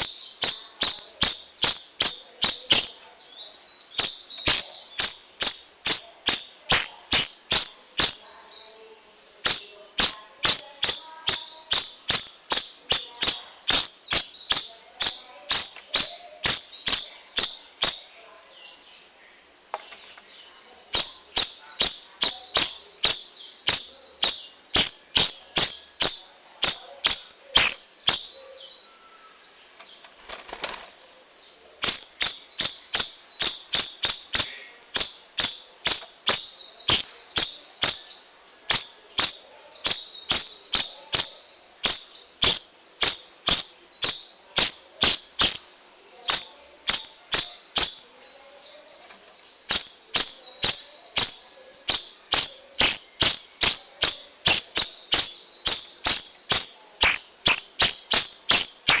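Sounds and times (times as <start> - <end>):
bird singing high chipping notes: 0.0 - 19.1, 20.3 - 59.0.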